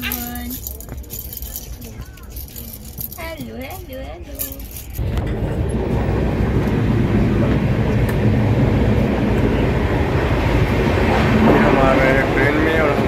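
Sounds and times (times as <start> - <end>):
train coach rumbling and rattling: 0.0 - 13.0.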